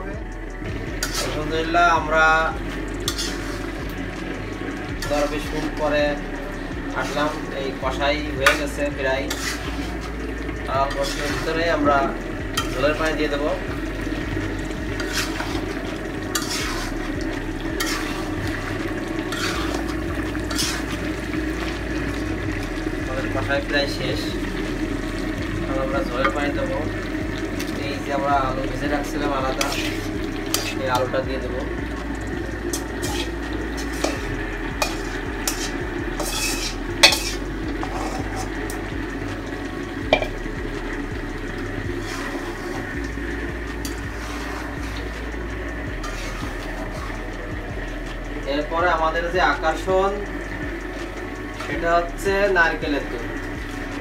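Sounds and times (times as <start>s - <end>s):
curry frying in a pot: 0.0s - 54.0s
food sizzling: 0.0s - 54.0s
metal spatula scraping a pot: 0.9s - 38.9s, 40.1s - 48.7s, 49.7s - 54.0s.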